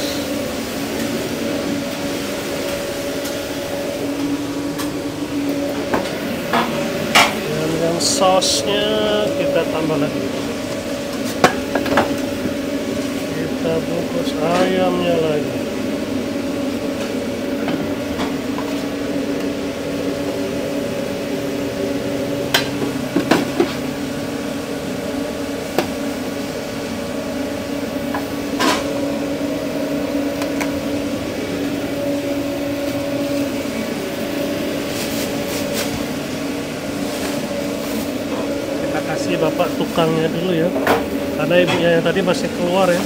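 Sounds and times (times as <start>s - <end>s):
machinery hum: 0.0s - 43.0s.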